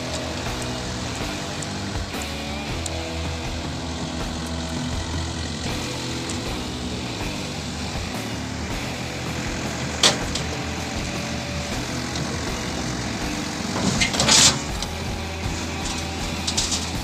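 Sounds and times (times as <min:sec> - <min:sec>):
diesel engine running: 0:00.0 - 0:17.0
noisy burst: 0:00.0 - 0:17.0.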